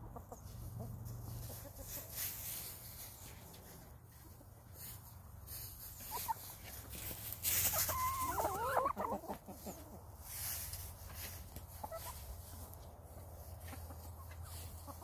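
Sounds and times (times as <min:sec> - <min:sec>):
chickens clucking: 0:00.0 - 0:15.0
chickens squawking: 0:00.0 - 0:15.0.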